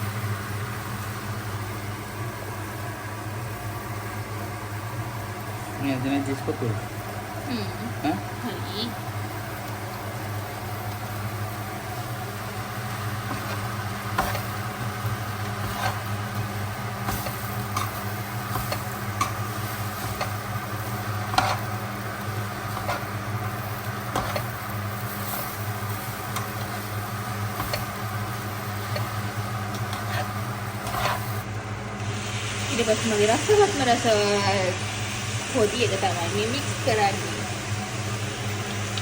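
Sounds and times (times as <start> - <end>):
constant low hum: 0.0 - 39.0
food sizzling in a pan: 0.0 - 39.0.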